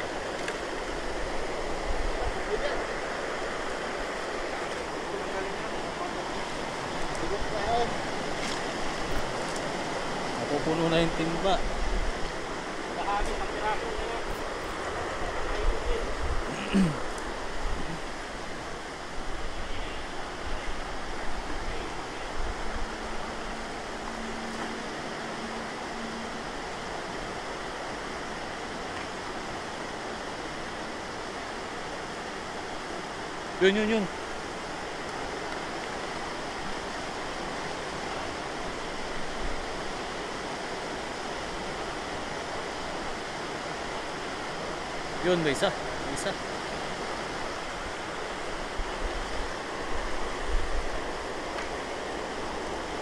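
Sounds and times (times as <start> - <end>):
river water rushing over step: 0.0 - 53.0.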